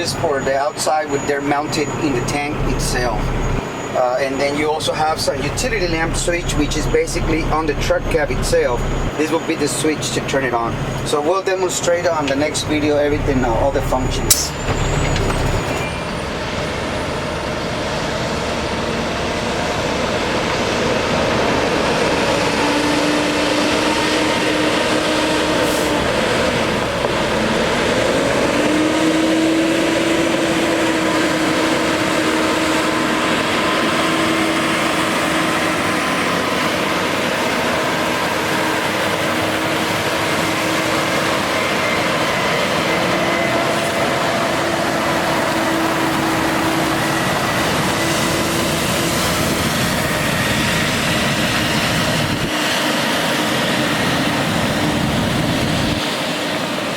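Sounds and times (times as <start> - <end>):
heavy truck engine rumbling: 0.0 - 56.9.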